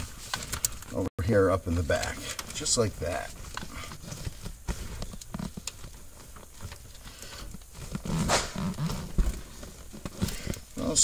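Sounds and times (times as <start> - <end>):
wires and plastic rustling: 0.0 - 11.0.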